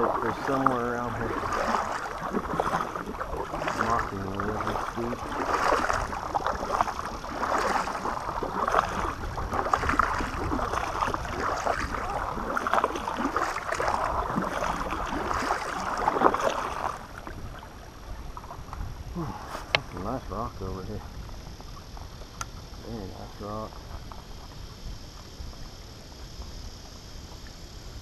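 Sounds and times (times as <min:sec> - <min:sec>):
paddle strokes splashing: 0:00.0 - 0:28.0
water washing along hull: 0:00.0 - 0:28.0
wind rumble on microphone: 0:00.0 - 0:28.0.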